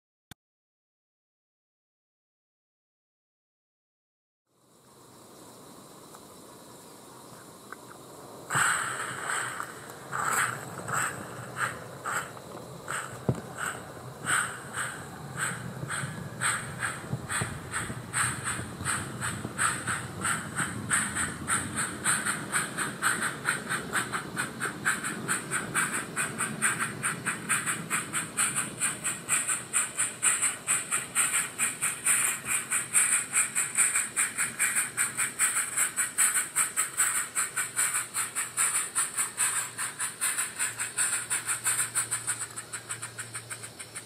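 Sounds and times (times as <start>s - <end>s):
model steam locomotive chuffing: 7.6s - 44.0s.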